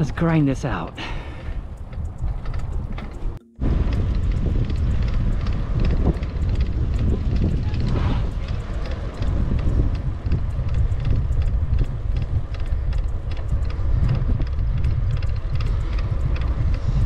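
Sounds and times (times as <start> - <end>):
faint rapid ticking: 0.0 - 17.0
wind buffeting microphone: 0.0 - 17.0.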